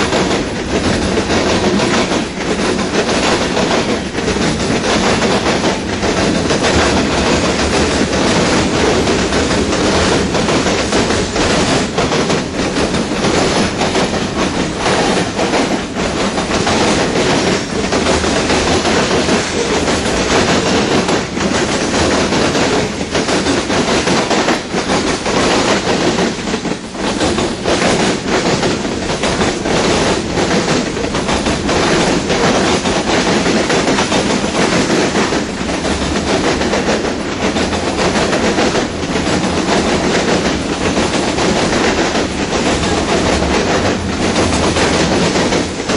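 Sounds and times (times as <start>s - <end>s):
train wheels rumbling on rail: 0.0s - 45.9s
wheel clacks: 0.0s - 45.9s.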